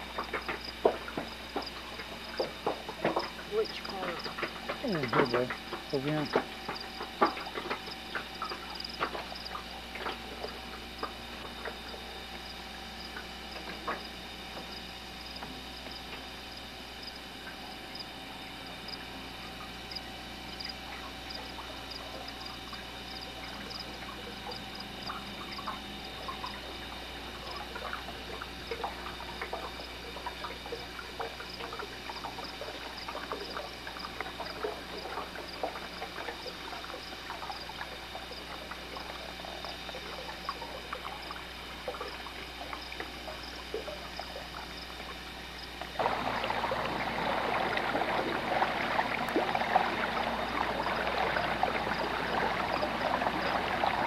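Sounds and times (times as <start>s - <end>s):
water lapping around boat: 0.0s - 54.0s.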